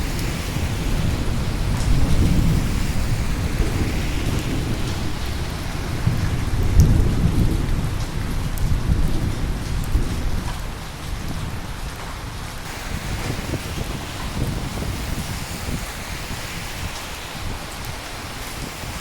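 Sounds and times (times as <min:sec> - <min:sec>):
thunder rumbling: 0:00.0 - 0:11.8, 0:12.6 - 0:19.0
steady rain falling: 0:00.0 - 0:19.0.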